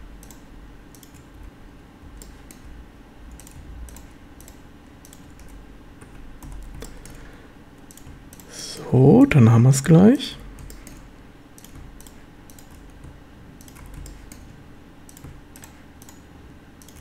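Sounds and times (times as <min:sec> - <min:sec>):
computer keyboard keys clicking: 0:00.2 - 0:07.2, 0:07.8 - 0:08.5, 0:10.5 - 0:17.0.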